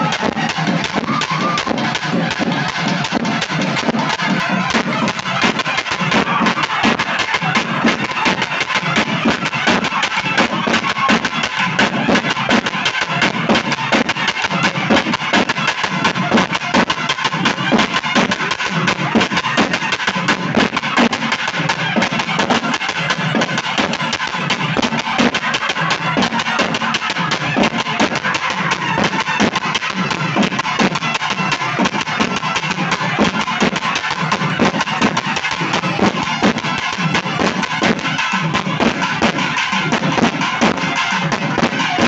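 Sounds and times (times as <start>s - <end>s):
fast dense drumming: 0.0s - 42.0s.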